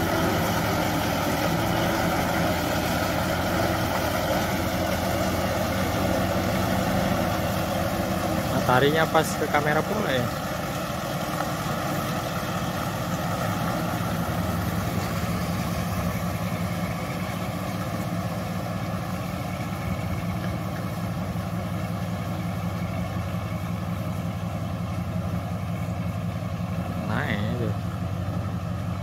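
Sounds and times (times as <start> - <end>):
truck diesel engine pulling away: 0.0 - 29.0.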